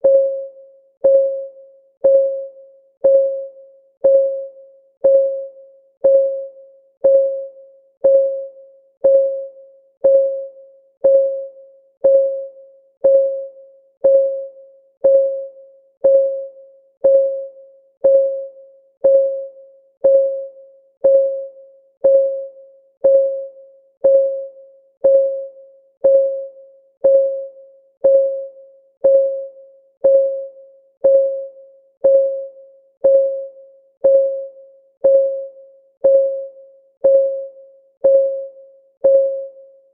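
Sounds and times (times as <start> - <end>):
timer clock ticking: 1.0 - 1.4, 2.0 - 39.6.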